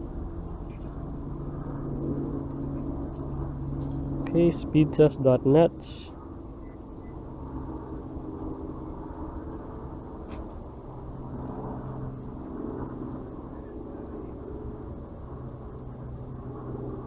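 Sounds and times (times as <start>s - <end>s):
engine humming: 0.0s - 17.0s
outdoor background noise: 0.0s - 17.0s.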